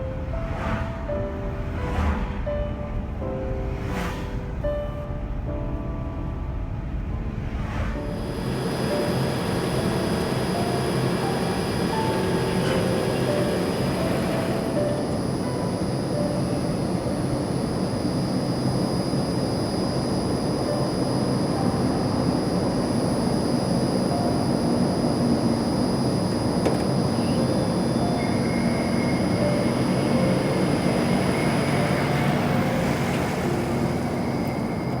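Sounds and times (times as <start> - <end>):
vehicle rumbling in motion: 0.0 - 35.0.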